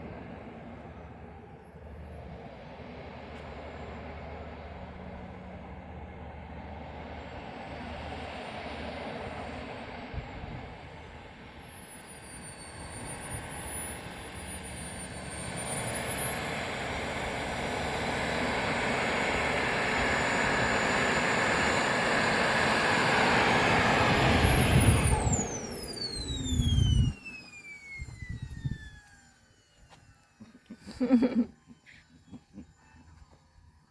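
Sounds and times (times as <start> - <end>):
model jet turbine whine: 0.0 - 33.9.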